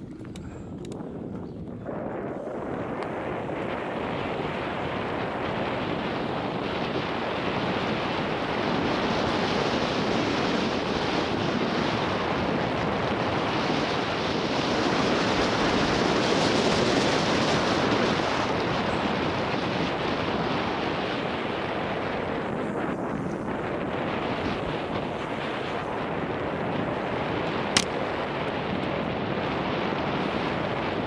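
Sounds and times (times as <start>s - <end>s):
tyres rumbling on dirt trail: 0.0s - 31.0s
wind rushing over microphone: 0.0s - 31.0s.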